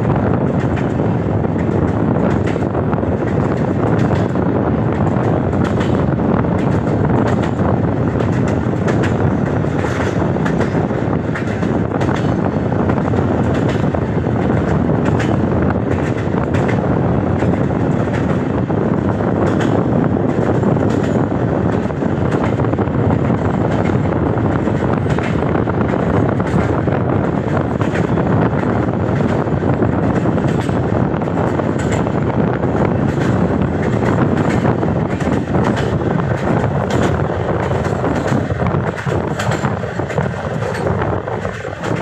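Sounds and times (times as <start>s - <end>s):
rail clicks: 0.0s - 42.0s
train wheels rumbling on rail: 0.0s - 42.0s.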